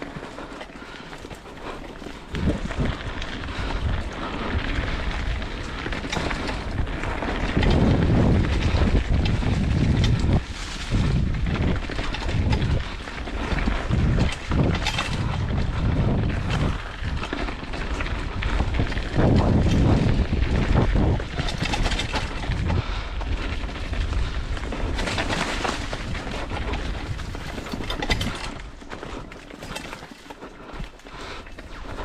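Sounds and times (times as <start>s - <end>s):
bike knocks and rattles: 0.0s - 32.0s
tyre noise on dirt and rock: 0.0s - 32.0s
wind buffeting microphone: 0.0s - 32.0s.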